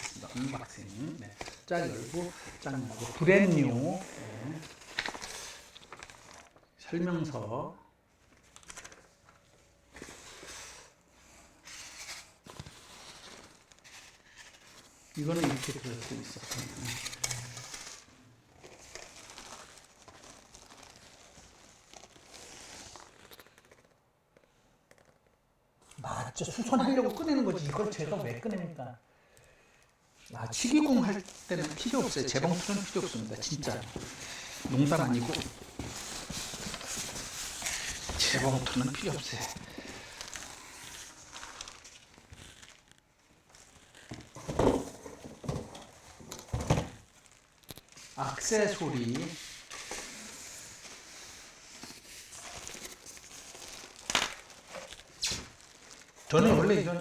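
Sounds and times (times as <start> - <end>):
packaging crinkling and rustling: 0.0 - 6.8, 8.1 - 28.8, 29.4 - 57.0.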